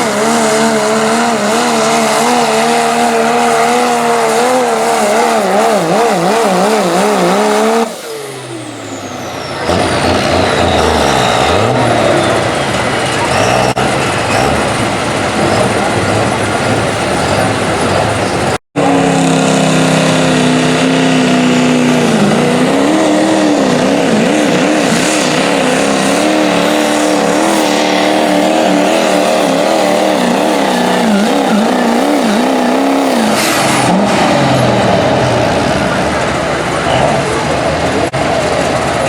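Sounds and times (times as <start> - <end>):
diesel truck engine revving: 0.0 - 39.0.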